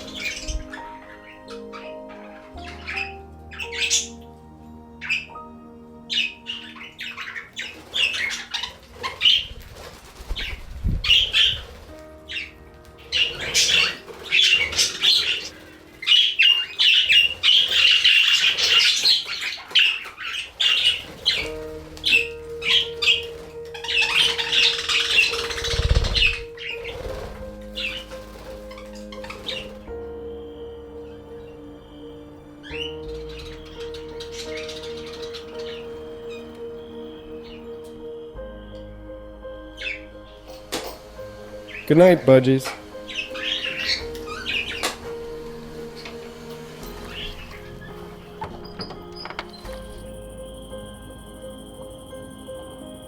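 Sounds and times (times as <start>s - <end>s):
budgerigars chattering: 0.0s - 4.3s, 6.0s - 37.9s, 39.6s - 51.0s
background music with held notes: 0.0s - 53.0s.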